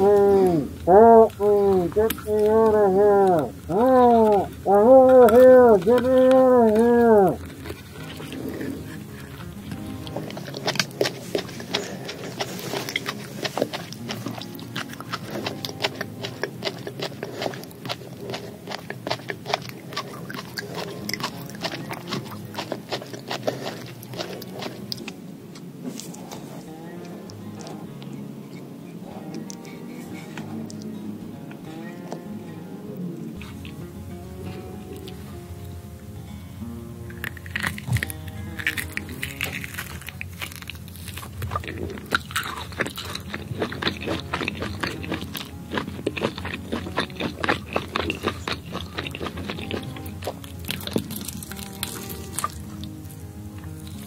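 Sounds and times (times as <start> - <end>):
wet mouth chewing: 0.0 - 32.3, 33.1 - 35.8, 37.0 - 54.0.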